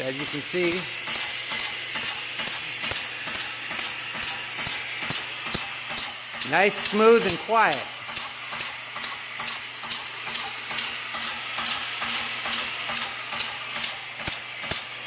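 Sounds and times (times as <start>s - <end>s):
air hammer clacking: 0.0s - 15.0s.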